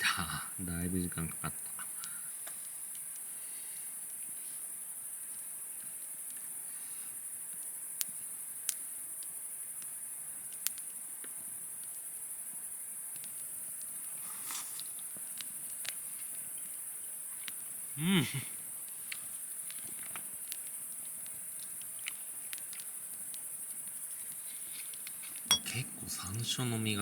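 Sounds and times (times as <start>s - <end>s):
night insects chirping: 0.0s - 27.0s.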